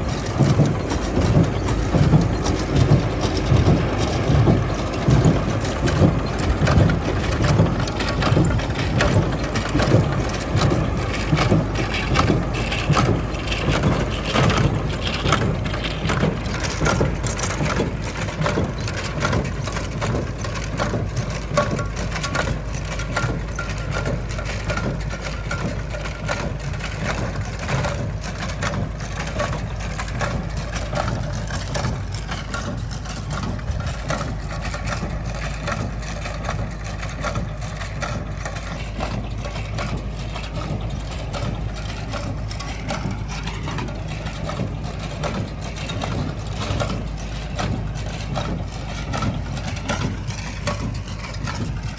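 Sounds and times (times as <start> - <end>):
machinery clattering and rattling: 0.0 - 51.9
tractor engine running: 0.0 - 51.9.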